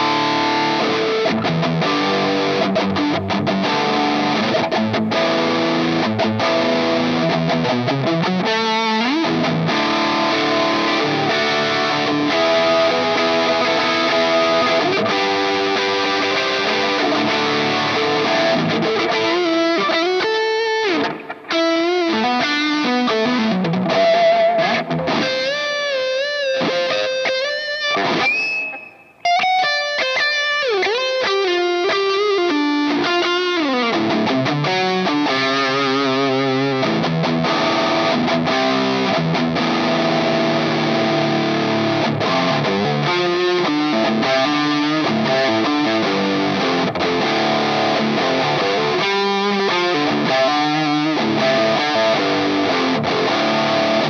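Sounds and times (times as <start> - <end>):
distorted electric guitar lead: 0.0 - 54.0.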